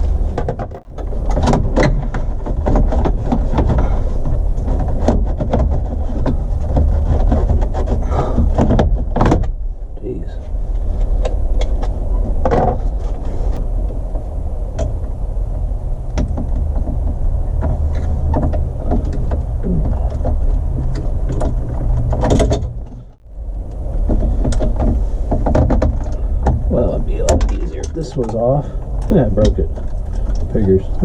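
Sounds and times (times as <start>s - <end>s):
steady low rumble: 0.0s - 5.0s, 9.6s - 31.0s.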